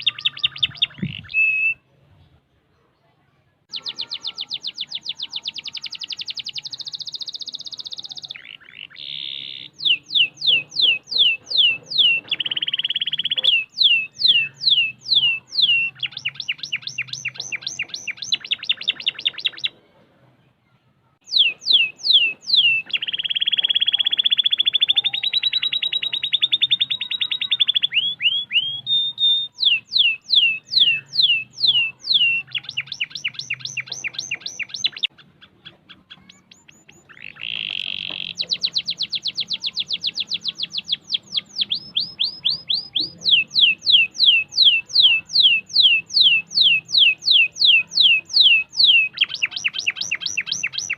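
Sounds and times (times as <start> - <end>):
canary singing: 0.0 - 2.4, 3.7 - 19.8, 21.2 - 50.9.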